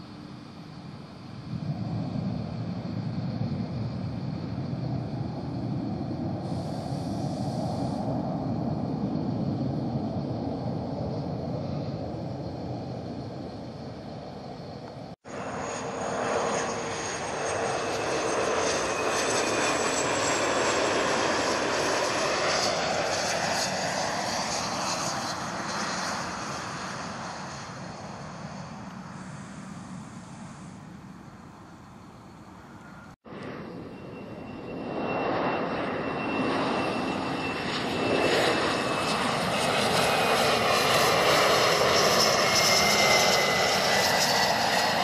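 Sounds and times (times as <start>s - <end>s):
high jet engine whine: 0.0s - 45.0s
jet engines: 0.0s - 45.0s.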